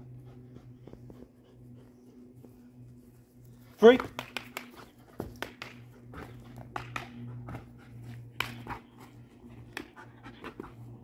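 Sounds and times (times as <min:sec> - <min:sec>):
paws and feet thumping on turf: 0:00.0 - 0:11.0.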